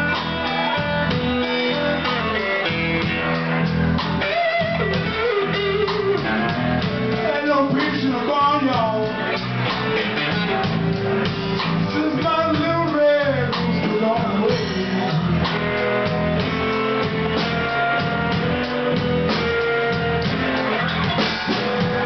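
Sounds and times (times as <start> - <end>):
electric guitar solo: 0.0 - 12.0, 14.4 - 22.0
drums: 0.0 - 22.0.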